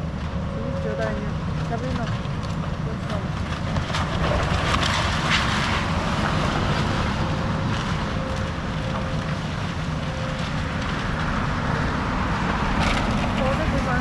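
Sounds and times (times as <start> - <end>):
excavator diesel engine running: 0.0 - 14.0
debris cracking and crunching: 1.4 - 13.9.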